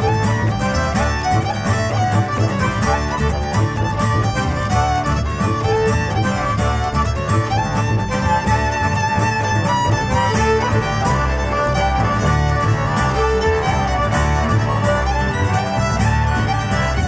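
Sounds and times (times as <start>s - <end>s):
diatonic accordion: 0.0s - 17.0s
fiddle melody: 0.0s - 17.0s
plucked double bass: 0.0s - 17.0s
rhythmic acoustic guitar: 0.0s - 17.0s.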